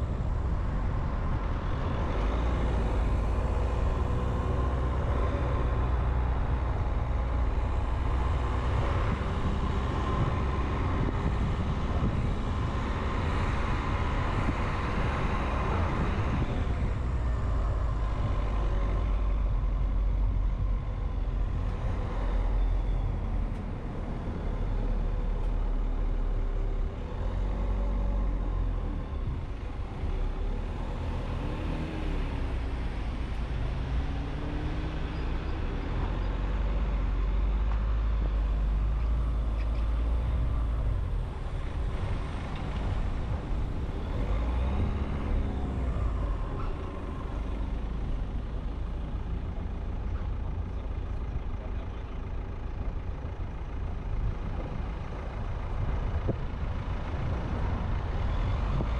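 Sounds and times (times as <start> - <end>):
road and traffic noise: 0.0 - 58.9
vehicle engines accelerating: 0.0 - 58.9.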